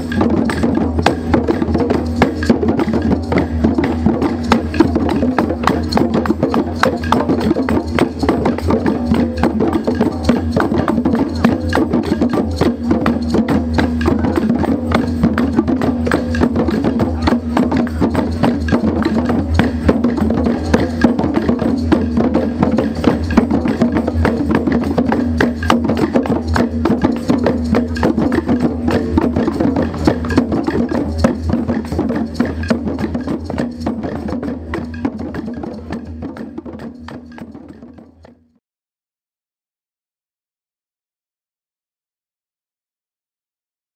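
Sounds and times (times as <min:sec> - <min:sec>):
music with fast dense percussion: 0:00.0 - 0:38.6.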